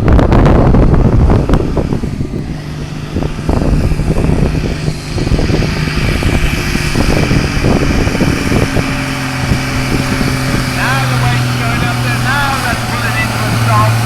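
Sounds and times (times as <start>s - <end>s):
tractor engine running under load: 0.0s - 14.0s.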